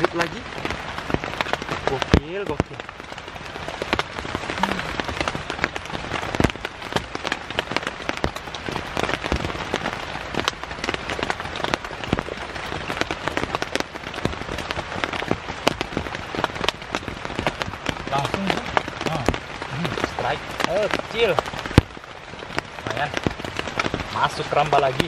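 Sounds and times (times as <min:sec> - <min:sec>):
heavy rain on a tent: 0:00.0 - 0:25.0
sharp raindrop hits: 0:00.0 - 0:25.0.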